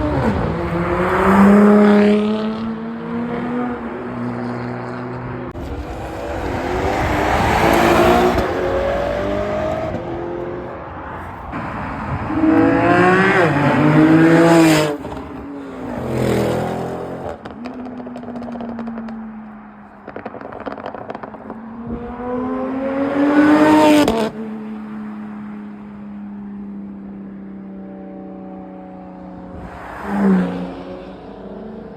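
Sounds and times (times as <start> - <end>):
car engines revving and accelerating: 0.0 - 31.9.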